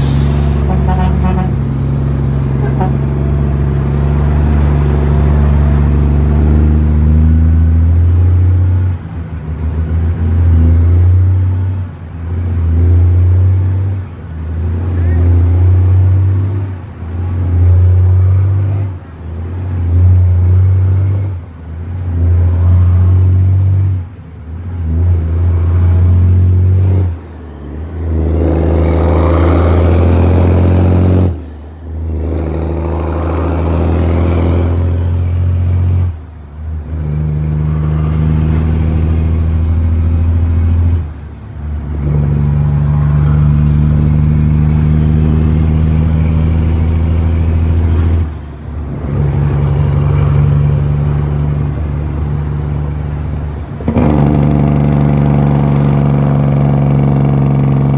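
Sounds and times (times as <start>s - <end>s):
truck diesel engine shifting gears: 0.0s - 57.9s.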